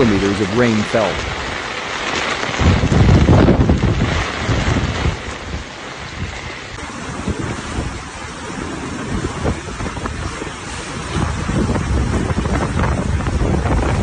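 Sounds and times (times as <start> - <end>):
driving rain: 0.0 - 14.0
wind hiss: 0.0 - 14.0.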